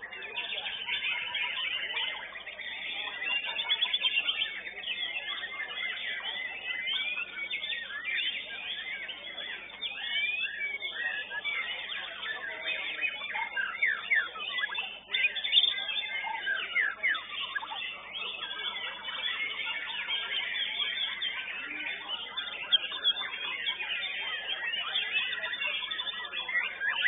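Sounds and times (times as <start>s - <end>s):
bird song with whistled trills: 0.0s - 27.0s.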